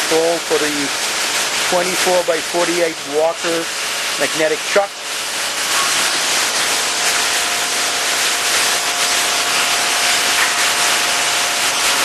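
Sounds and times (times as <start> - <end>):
steady loud hiss: 0.0 - 12.0.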